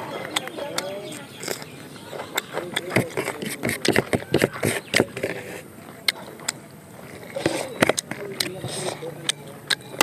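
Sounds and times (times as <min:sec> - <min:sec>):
chewing and lip-smacking: 0:00.1 - 0:10.0.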